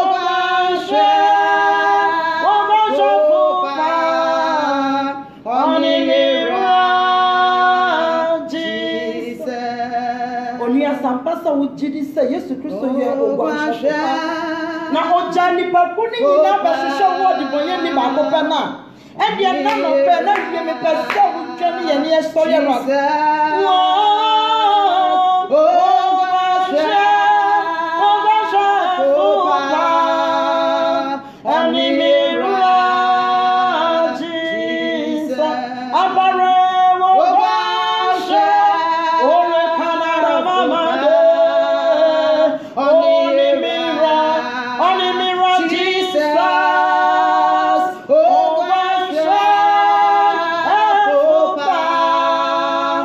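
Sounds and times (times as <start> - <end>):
women singing unaccompanied: 0.0 - 53.0.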